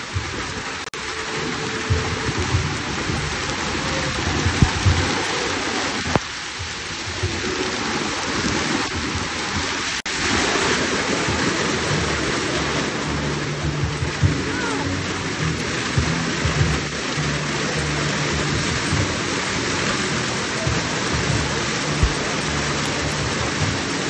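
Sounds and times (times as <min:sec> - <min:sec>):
hail and heavy rain pelting: 0:00.0 - 0:24.0.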